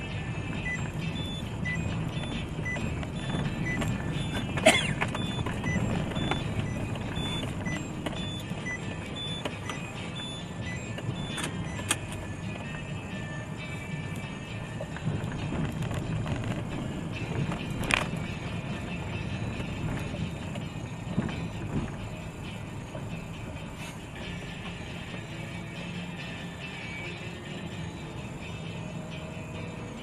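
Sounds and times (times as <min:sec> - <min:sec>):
vehicle driving rumble: 0:00.0 - 0:30.0.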